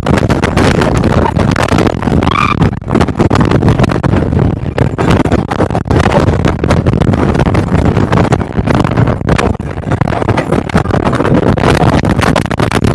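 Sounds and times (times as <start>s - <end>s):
speedboat running at high speed: 0.0s - 12.9s
wind buffeting microphone: 0.0s - 12.9s.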